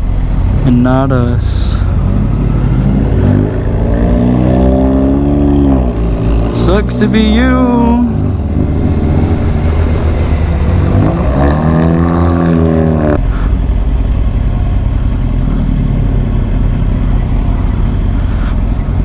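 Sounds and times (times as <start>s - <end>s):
pitched engine note: 0.0s - 19.0s
vehicle engine low rumble: 0.0s - 19.0s.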